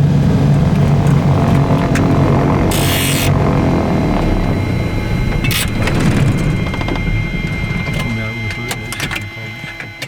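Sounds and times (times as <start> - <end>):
piston aircraft engines droning: 0.0 - 10.0.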